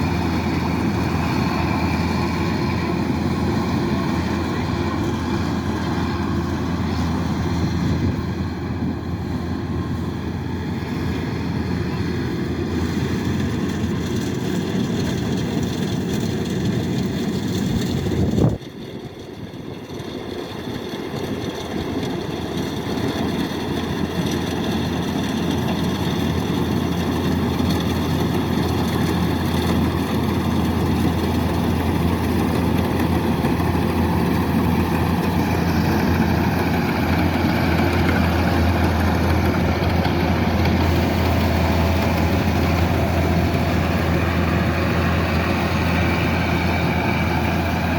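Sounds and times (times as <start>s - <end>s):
combine harvester diesel engine: 0.0s - 47.9s.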